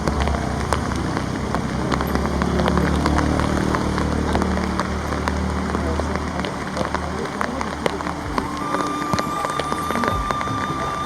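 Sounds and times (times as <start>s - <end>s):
rain falling steadily: 0.0s - 11.0s
raindrops ticking on surfaces: 0.0s - 11.0s.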